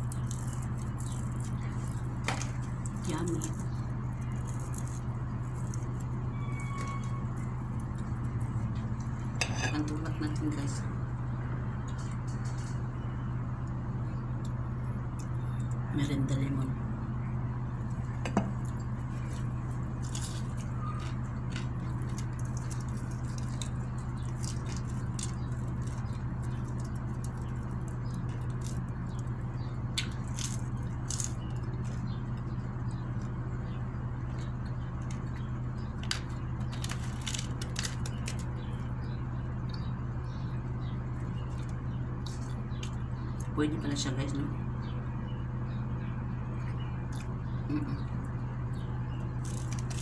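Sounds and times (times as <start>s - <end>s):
chewing with crisp crackles: 0.0s - 15.9s, 16.8s - 43.6s, 45.2s - 50.0s
steady low hum: 0.0s - 50.0s.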